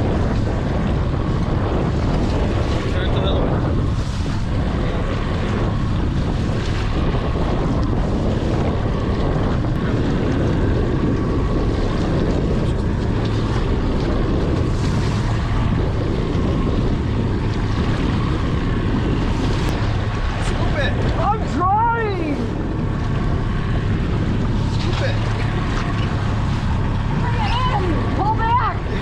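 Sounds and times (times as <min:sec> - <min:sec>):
waves washing against boat hull: 0:00.0 - 0:29.0
wind buffeting microphone: 0:00.0 - 0:29.0.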